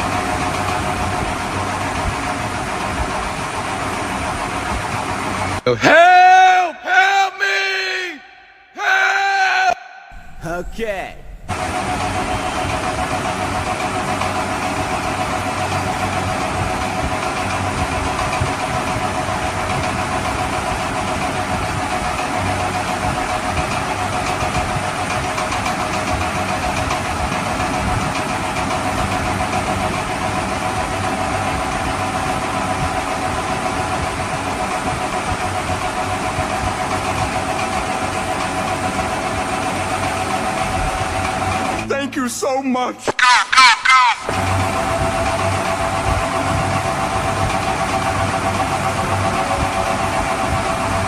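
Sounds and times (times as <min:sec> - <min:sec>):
motor running steadily: 0:00.0 - 0:05.7, 0:11.3 - 0:41.9, 0:44.2 - 0:51.0.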